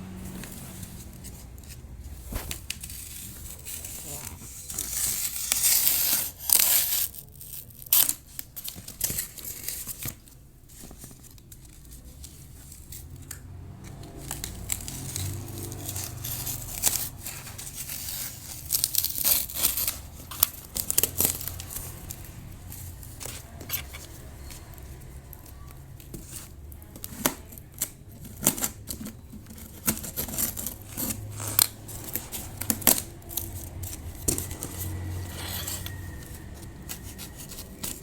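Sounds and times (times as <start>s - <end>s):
cardboard tearing and crinkling: 0.4s - 13.1s, 14.1s - 38.0s.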